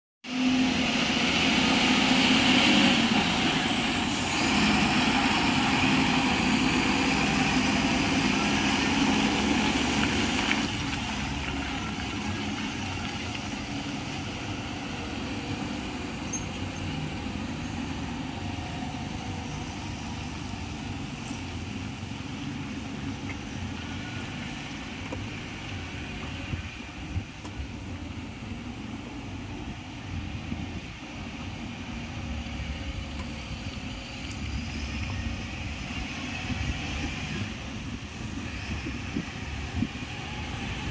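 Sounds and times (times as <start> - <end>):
diesel truck engine under load: 0.3 - 40.9.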